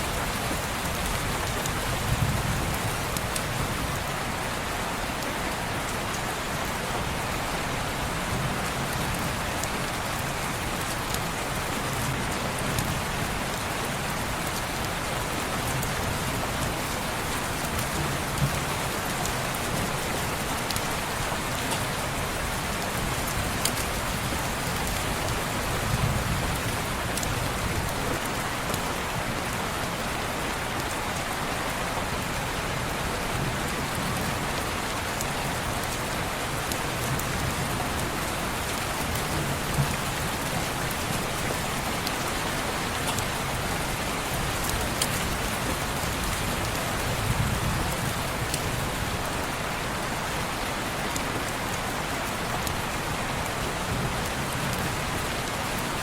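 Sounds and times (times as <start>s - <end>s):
heavy rain on window glass: 0.0s - 56.0s.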